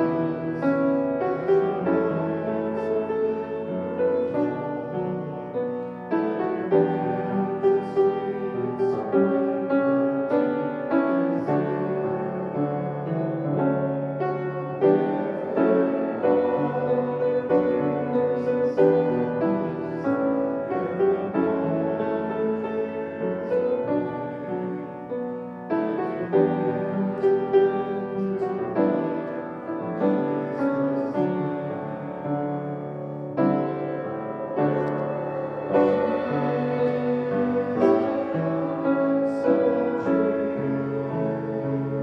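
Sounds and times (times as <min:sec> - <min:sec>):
slow piano chords: 0:00.0 - 0:42.0.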